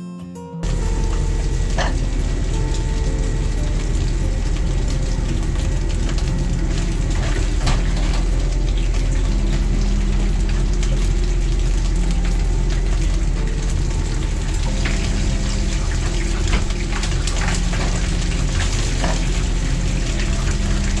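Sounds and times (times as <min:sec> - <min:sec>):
deep rumble: 0:00.6 - 0:21.0
rain: 0:00.6 - 0:21.0
strong wind on microphone: 0:00.6 - 0:21.0.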